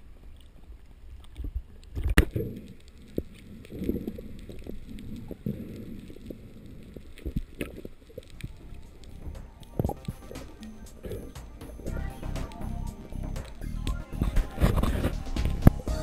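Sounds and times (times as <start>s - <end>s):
muffled underwater noise: 0.0s - 16.0s.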